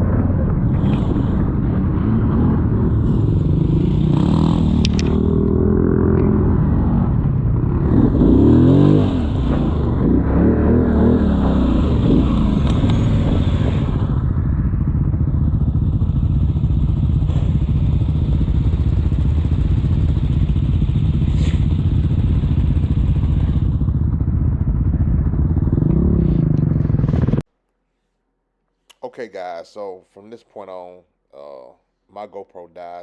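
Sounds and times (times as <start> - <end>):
atv engine rumbling: 0.0 - 27.4.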